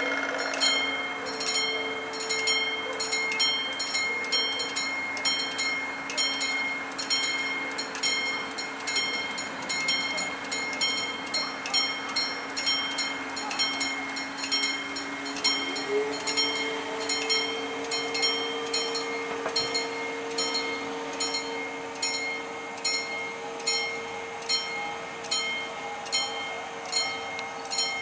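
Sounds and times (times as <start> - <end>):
crossing warning bell ringing: 0.0 - 28.0.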